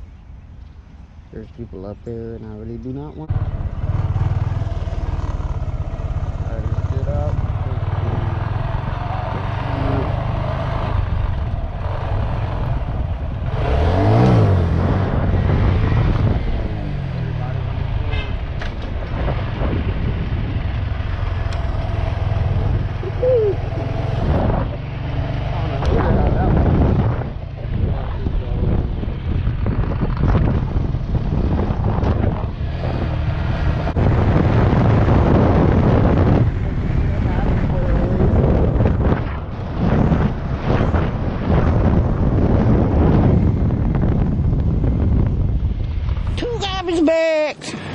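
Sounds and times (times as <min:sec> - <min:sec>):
wind noise on microphone: 0:02.4 - 0:47.9
motorcycle engine revving: 0:03.2 - 0:46.4.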